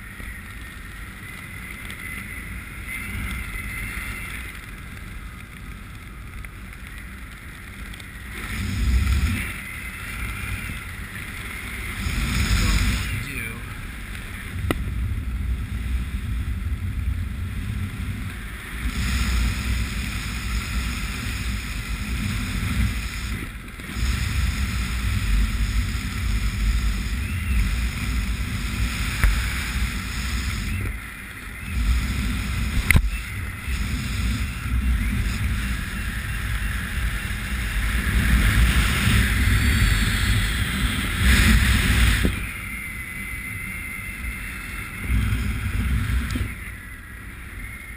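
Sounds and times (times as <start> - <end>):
wind buffeting microphone: 1.2 - 47.0.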